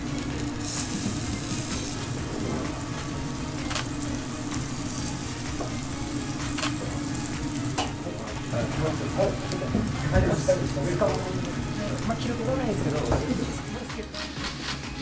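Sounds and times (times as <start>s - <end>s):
steak sizzling on a griddle: 0.0s - 14.8s.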